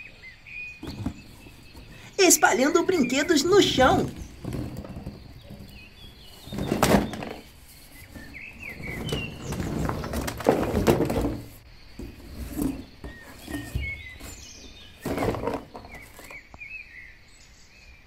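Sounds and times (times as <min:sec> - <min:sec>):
plastic toys clattering: 0:00.8 - 0:16.5.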